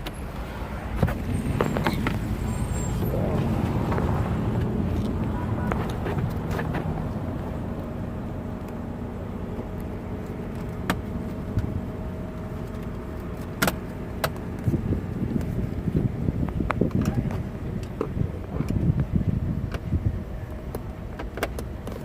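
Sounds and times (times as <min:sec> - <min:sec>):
steady low rumble: 0:00.0 - 0:21.8.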